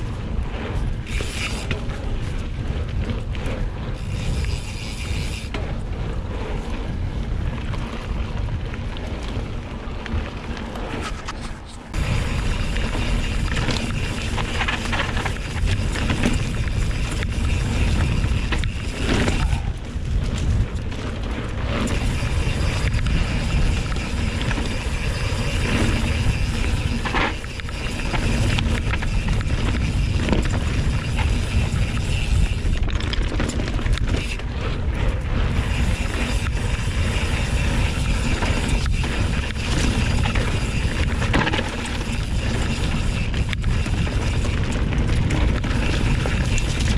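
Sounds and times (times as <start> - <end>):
bike rattling and knocking: 0.0 - 46.9
wind and tyre rumble: 0.0 - 46.9.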